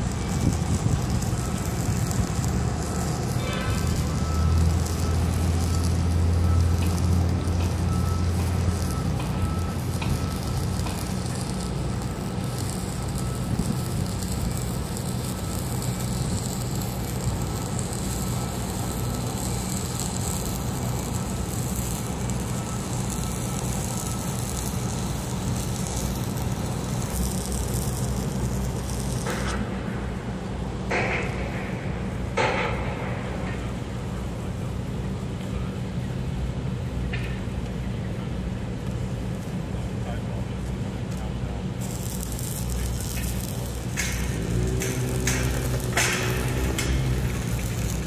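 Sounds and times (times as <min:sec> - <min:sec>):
heavy machine engine humming: 0:00.0 - 0:48.0.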